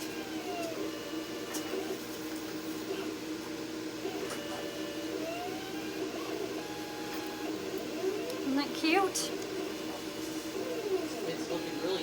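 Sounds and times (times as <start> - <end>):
cutting machine motor hum: 0.0 - 12.0.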